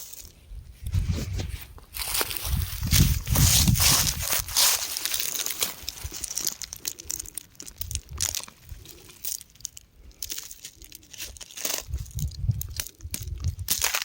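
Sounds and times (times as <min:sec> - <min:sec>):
rocks crumbling and crunching: 0:01.8 - 0:14.0.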